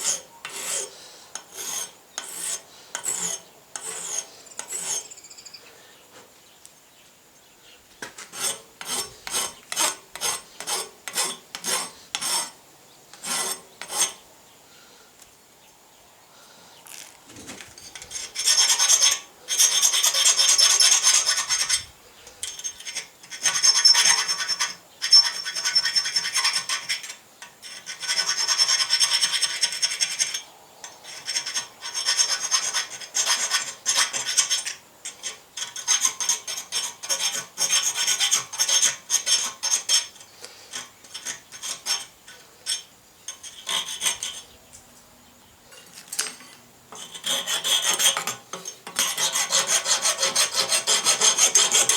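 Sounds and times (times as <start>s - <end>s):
file rasping on steel: 0.0s - 5.2s, 8.0s - 14.2s, 17.8s - 30.4s, 31.0s - 44.5s, 46.1s - 51.9s.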